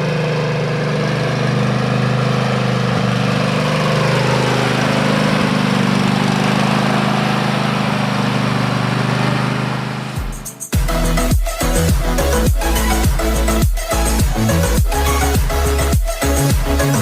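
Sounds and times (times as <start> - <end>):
riding mower engine running: 0.0 - 17.0.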